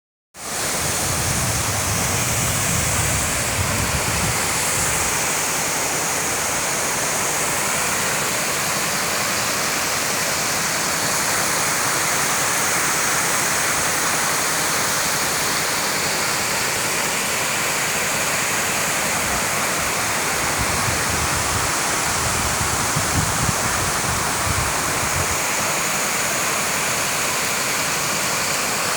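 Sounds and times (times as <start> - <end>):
waterfall rushing: 0.4 - 28.9.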